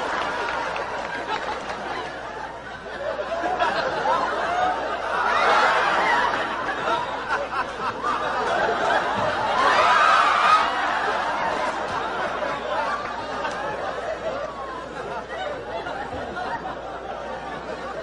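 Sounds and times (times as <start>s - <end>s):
audience laughing: 0.0s - 18.0s.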